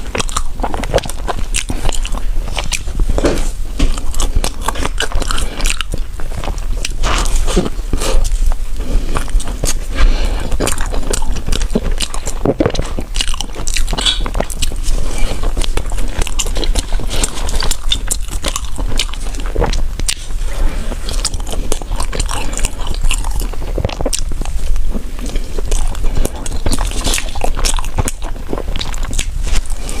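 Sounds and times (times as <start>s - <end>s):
low steady hum: 0.0s - 30.0s
person chewing bread: 0.0s - 30.0s.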